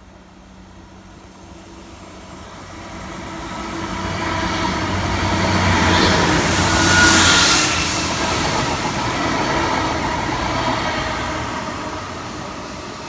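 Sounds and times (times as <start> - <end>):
train engine drone: 0.0 - 13.0
train wheels rushing hiss: 0.0 - 13.0.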